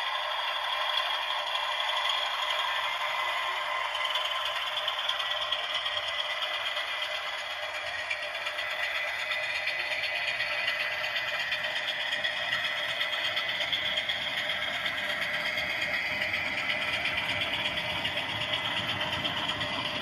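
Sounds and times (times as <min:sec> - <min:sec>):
diesel engine through small speaker: 0:00.0 - 0:20.0
wheels clattering on track: 0:00.0 - 0:20.0.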